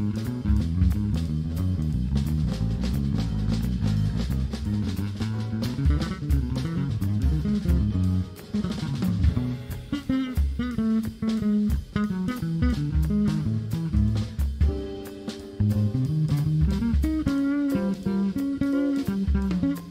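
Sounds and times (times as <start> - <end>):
drum kit and cymbals: 0.0 - 19.9
electric bass guitar line: 0.0 - 19.9.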